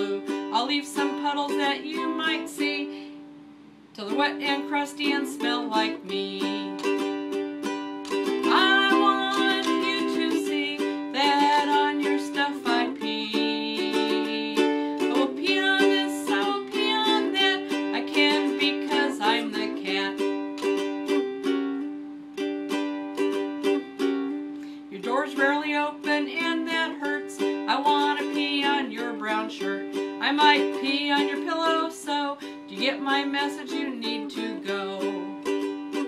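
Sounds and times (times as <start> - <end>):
ukulele strumming: 0.0 - 36.0.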